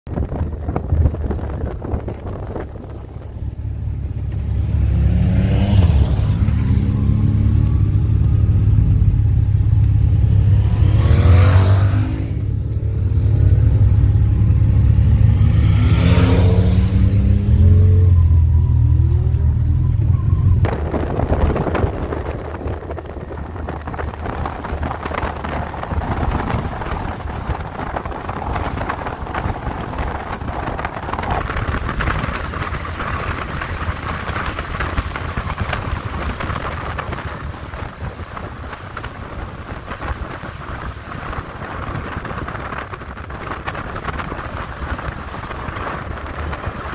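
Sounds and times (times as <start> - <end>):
wind on microphone: 0.0 - 46.9.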